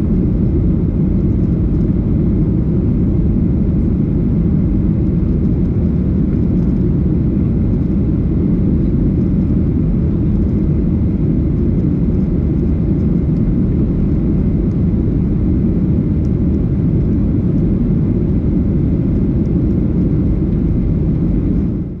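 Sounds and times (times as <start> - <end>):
jet engines rumbling in cabin: 0.0 - 22.0.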